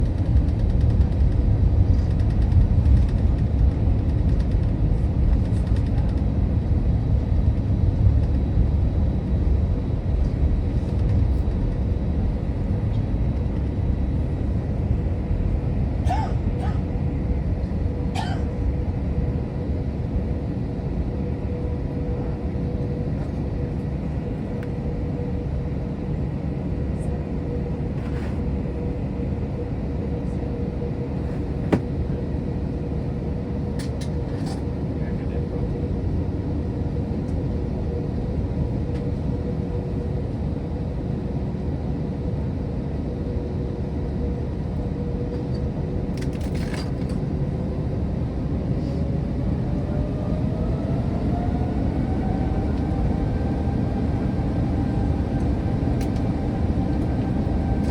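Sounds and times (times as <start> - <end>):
aircraft cabin engine rumble: 0.0 - 57.9.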